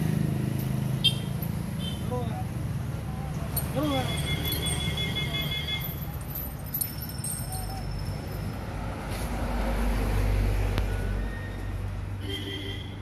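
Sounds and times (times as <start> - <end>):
vehicle engine rumbling: 0.0 - 12.2.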